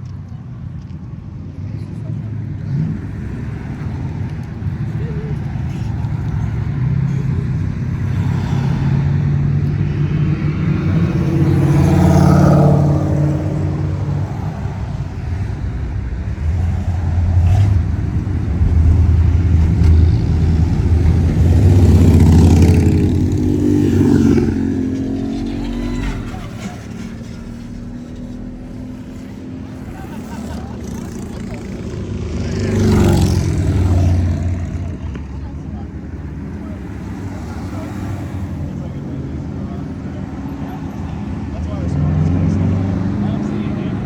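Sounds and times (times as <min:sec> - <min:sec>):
car engines passing: 0:00.0 - 0:44.0.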